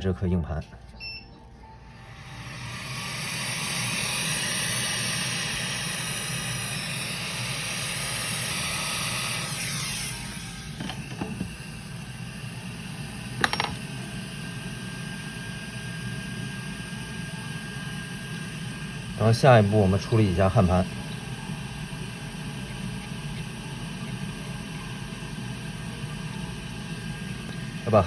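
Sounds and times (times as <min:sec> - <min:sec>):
fan winding down: 0:01.7 - 0:28.0
hot-air blower hissing: 0:01.8 - 0:28.0.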